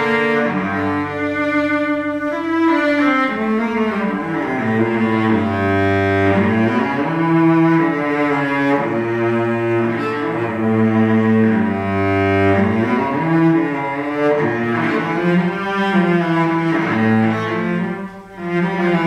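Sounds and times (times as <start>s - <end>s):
bowed cello long notes: 0.0s - 19.0s.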